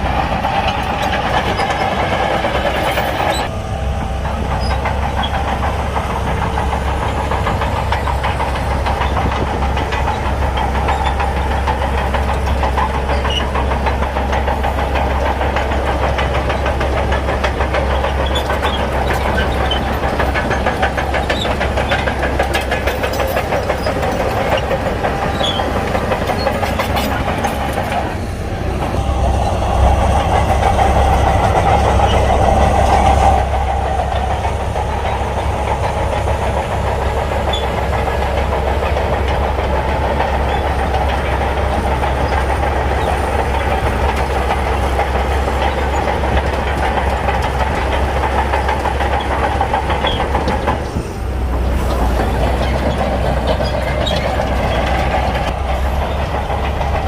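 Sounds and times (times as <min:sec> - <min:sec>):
bulldozer diesel engine: 0:00.0 - 0:57.0
tracks rattling: 0:00.0 - 0:57.0.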